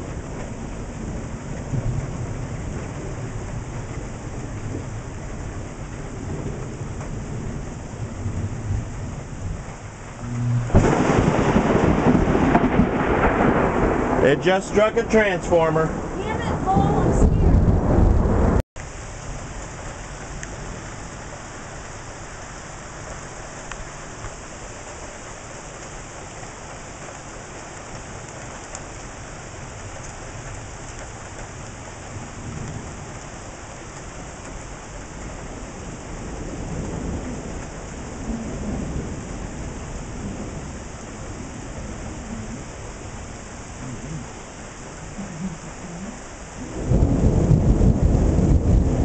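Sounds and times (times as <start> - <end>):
low thunder rumbling: 0.0 - 23.6, 31.5 - 49.0
steady rain falling: 0.0 - 49.0.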